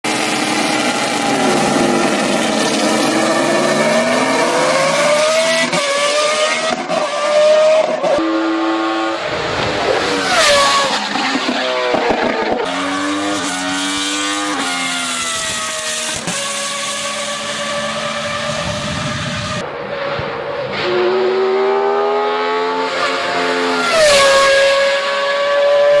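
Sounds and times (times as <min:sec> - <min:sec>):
racing car engine revving: 0:00.1 - 0:26.0.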